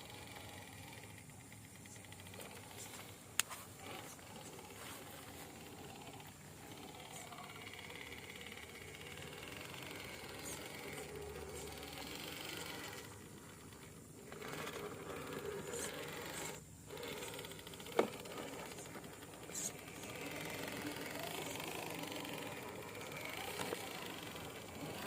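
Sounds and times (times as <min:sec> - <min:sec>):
small electric motor whining: 0:00.0 - 0:25.0.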